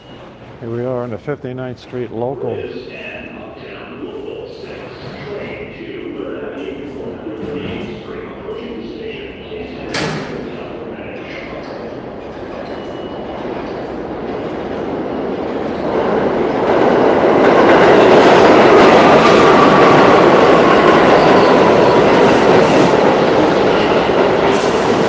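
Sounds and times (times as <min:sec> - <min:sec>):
subway train wheel rumble: 0:00.0 - 0:25.0.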